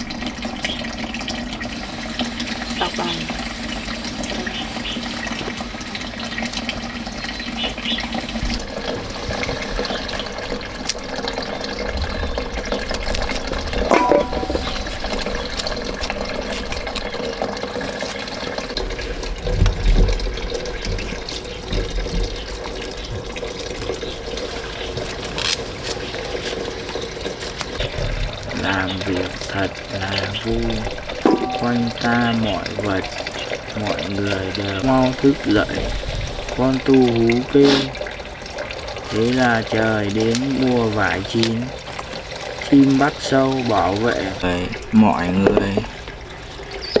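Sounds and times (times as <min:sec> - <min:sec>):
water running: 0:00.0 - 0:47.0.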